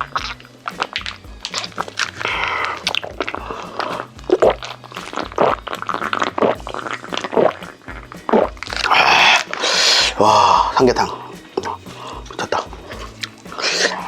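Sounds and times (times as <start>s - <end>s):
background music with low bass: 0.0s - 14.0s.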